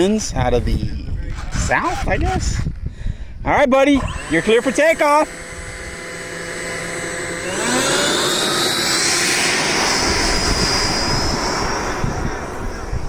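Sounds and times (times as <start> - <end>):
electric ducted fan jet whine: 0.0 - 13.0.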